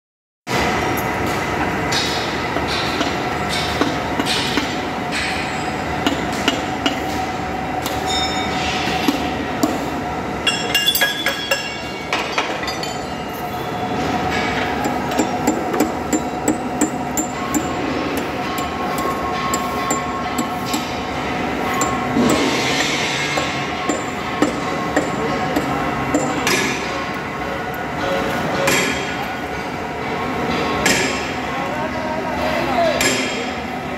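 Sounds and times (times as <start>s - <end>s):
metalworking shop din: 0.5s - 33.9s
workshop machinery hum: 0.5s - 33.9s.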